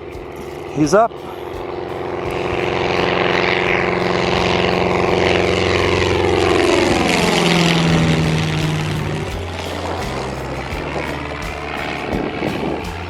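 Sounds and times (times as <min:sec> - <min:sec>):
propeller plane engine passing: 0:00.0 - 0:13.0.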